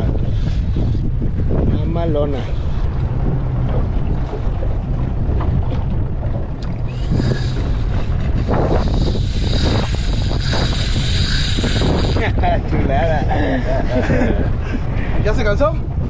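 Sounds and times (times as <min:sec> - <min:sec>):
water against boat hull: 0:00.0 - 0:16.0
wind buffeting microphone: 0:00.0 - 0:16.0.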